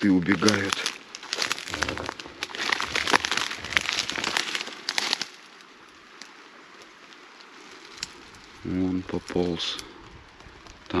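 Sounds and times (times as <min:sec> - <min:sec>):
dry reeds crackling and rustling: 0:00.0 - 0:11.0.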